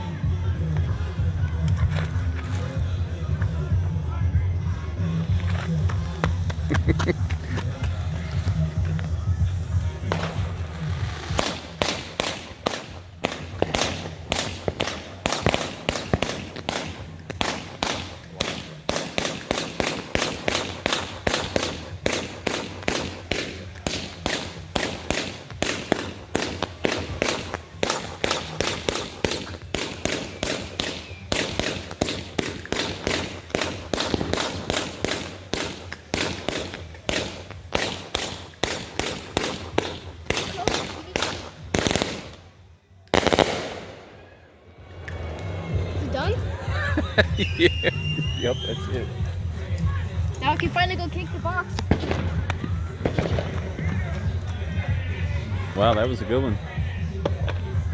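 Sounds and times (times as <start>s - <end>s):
fireworks bangs and pops: 5.2s - 42.5s, 43.1s - 44.0s, 44.9s - 55.0s.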